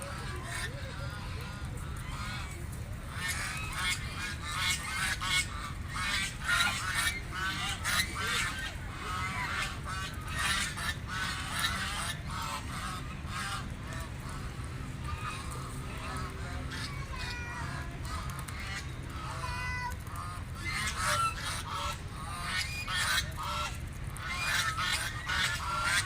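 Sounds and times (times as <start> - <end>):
ducks quacking: 0.0 - 26.0
steady low rumble: 0.0 - 26.0.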